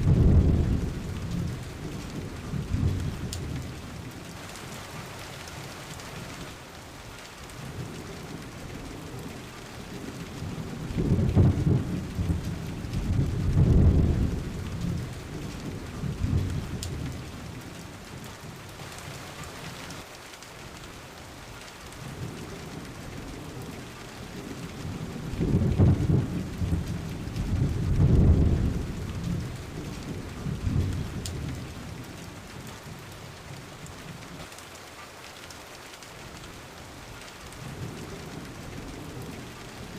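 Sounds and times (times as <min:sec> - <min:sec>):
low rolls of thunder: 0:00.0 - 0:06.4, 0:07.5 - 0:20.0, 0:22.0 - 0:34.4, 0:37.6 - 0:39.9
steady rain falling: 0:00.0 - 0:39.9.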